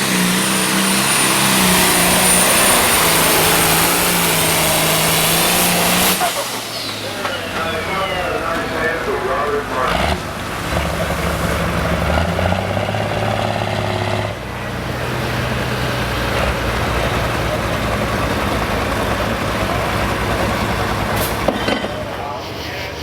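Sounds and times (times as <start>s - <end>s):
tractor engine running loud: 0.0s - 23.0s.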